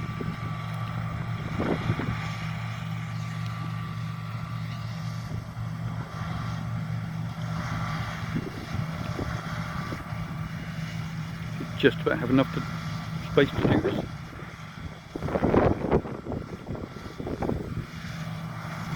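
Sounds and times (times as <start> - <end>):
combine harvester engine drone: 0.0 - 18.9.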